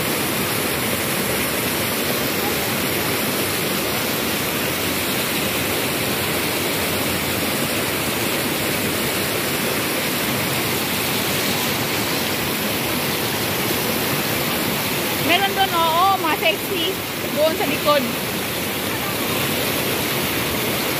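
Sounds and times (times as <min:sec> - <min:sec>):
water rushing over rocks: 0:00.0 - 0:20.9.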